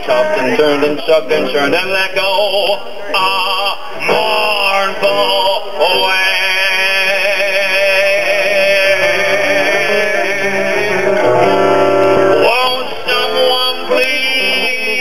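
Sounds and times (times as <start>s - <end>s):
acoustic guitar: 0.0s - 15.0s
man singing with vibrato: 0.0s - 15.0s.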